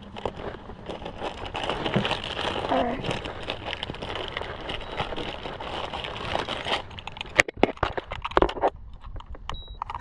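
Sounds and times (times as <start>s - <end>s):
crackling rustling handling noise: 0.0s - 10.0s.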